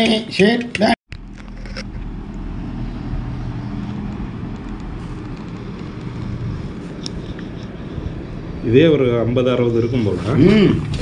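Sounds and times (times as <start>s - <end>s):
engine rumbling: 1.1s - 11.0s.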